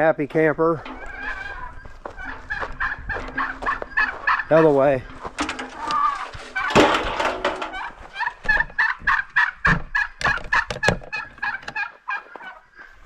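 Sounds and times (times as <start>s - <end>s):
chickens squawking: 0.6s - 13.0s.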